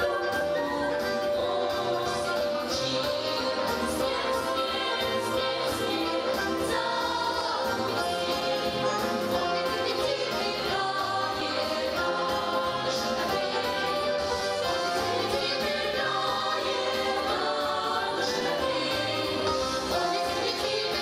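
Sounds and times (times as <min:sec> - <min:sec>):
song with singing voices: 0:00.0 - 0:21.0.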